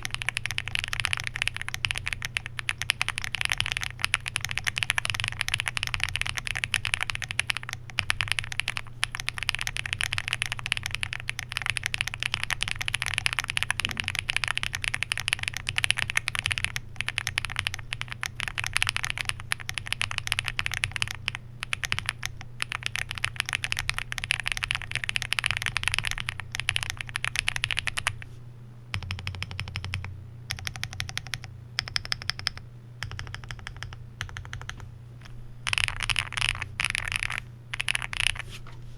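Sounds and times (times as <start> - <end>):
mechanical keyboard typing: 0.0 - 28.2, 29.0 - 34.8, 35.6 - 38.4.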